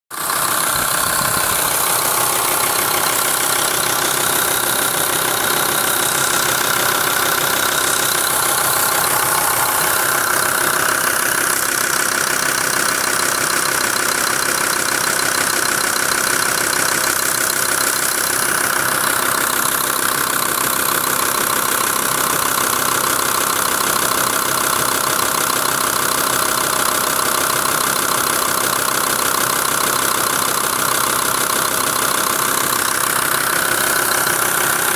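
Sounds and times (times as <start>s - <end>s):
diesel engine running: 0.1s - 34.9s
engine knock: 0.1s - 34.9s.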